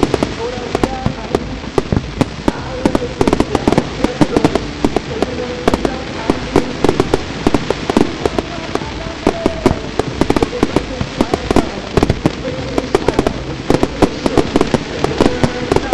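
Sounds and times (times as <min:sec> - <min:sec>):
fireworks bangs and crackles: 0:00.0 - 0:15.9.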